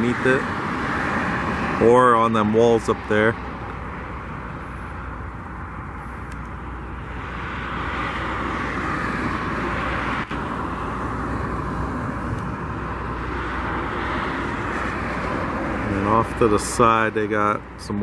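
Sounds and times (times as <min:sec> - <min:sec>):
distant engine rumble: 0:00.0 - 0:18.0.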